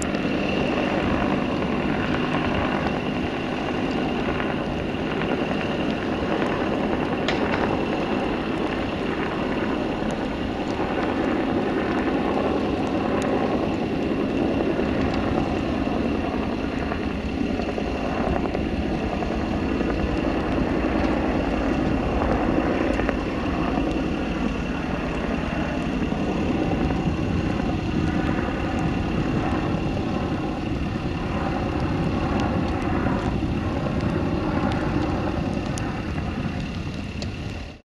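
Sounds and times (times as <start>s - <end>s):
helicopter rotor: 0.0s - 37.8s
high turbine whine: 0.0s - 37.8s.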